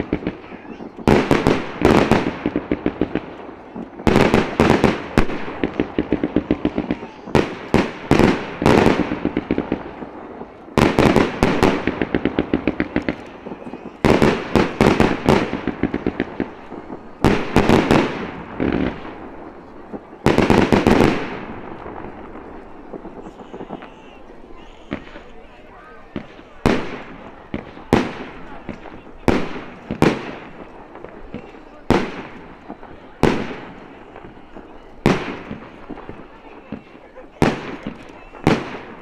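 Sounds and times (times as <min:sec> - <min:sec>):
crackling pops: 0:00.0 - 0:39.0
firework shells bursting: 0:00.0 - 0:39.0.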